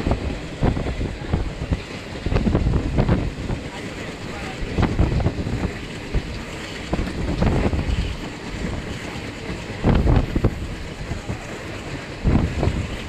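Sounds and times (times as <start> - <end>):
train rumbling: 0.0 - 13.0
wind buffeting microphone: 0.0 - 13.0.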